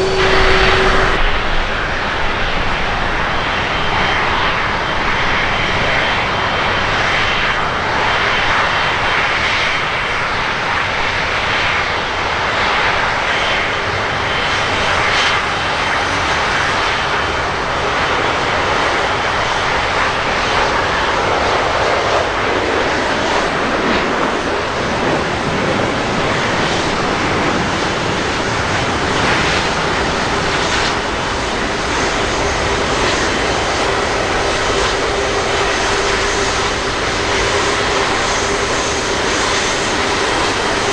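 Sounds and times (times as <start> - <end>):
jet engines running: 0.0 - 40.9.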